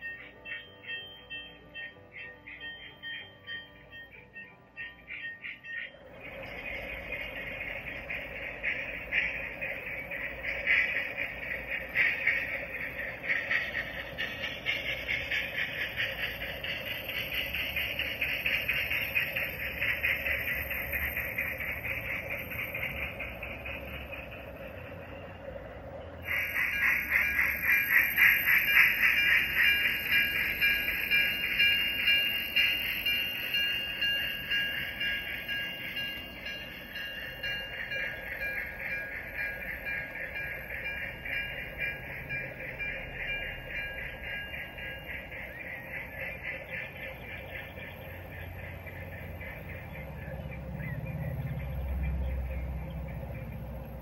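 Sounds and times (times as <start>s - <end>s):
model steam locomotive chuffing: 0.0s - 54.0s
train running: 0.0s - 54.0s.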